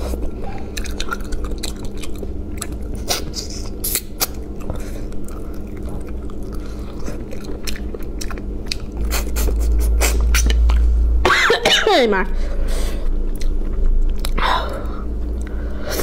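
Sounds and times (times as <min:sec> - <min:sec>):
person chewing meat: 0:00.0 - 0:10.8, 0:13.1 - 0:15.8
steady low hum: 0:00.0 - 0:16.0.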